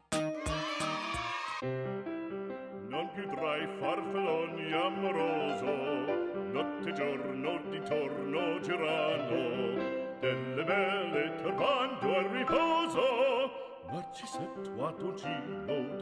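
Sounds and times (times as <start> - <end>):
classical accompaniment: 0.0 - 13.4
operatic singing with vibrato: 0.4 - 1.6, 2.9 - 16.0.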